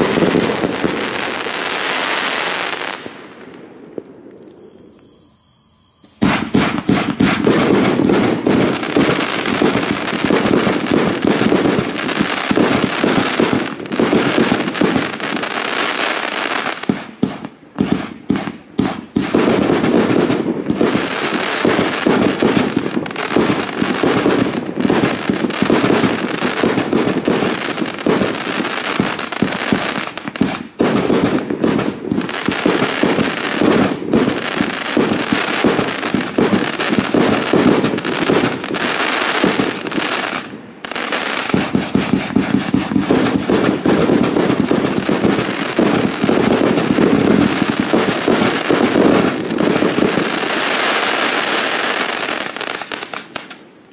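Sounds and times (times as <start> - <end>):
fireworks launching and bursting: 0.0 - 53.9.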